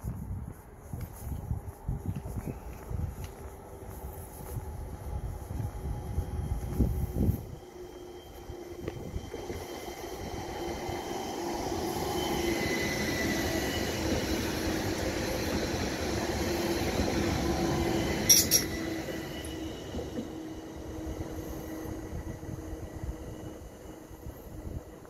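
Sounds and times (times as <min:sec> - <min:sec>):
electric train passing: 0:02.9 - 0:25.0.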